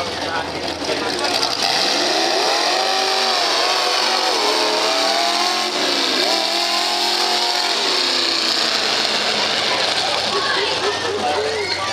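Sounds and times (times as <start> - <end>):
truck engines revving hard: 0.0 - 11.9.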